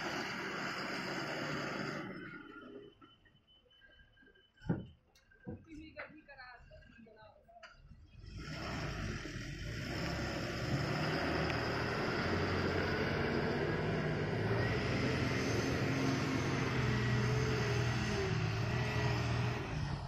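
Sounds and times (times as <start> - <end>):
diesel truck engine under load: 0.0 - 7.0, 7.6 - 20.0.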